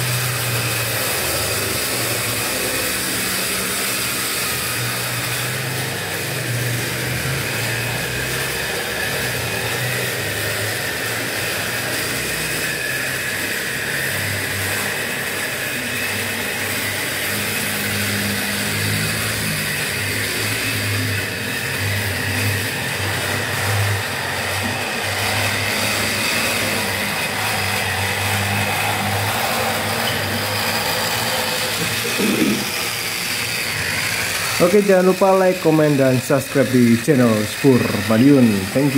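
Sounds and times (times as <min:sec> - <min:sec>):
electric motor whir: 0:00.0 - 0:38.9
wheels rolling on track: 0:00.0 - 0:38.9.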